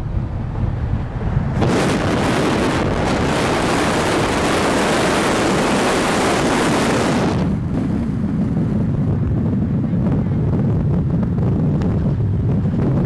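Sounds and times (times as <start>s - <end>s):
low road rumble: 0.0s - 13.0s
wind rushing over microphone: 0.0s - 13.0s.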